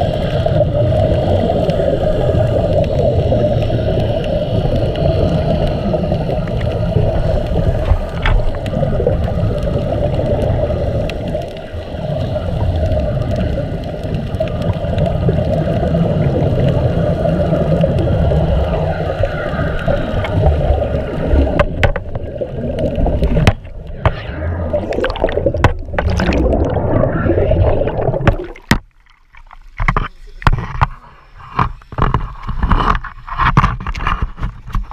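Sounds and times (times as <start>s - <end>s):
underwater rumble and bubbling: 0.0s - 34.9s
water splashing and sloshing: 0.0s - 34.9s.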